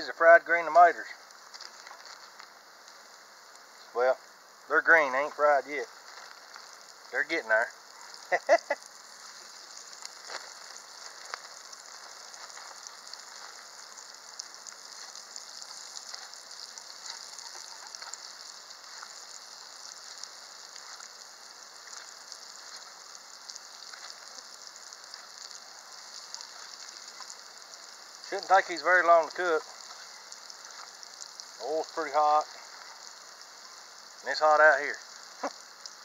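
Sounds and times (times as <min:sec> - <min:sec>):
hot oil sizzling in a skillet: 0:00.0 - 0:36.0
oil popping and crackling: 0:00.0 - 0:36.0.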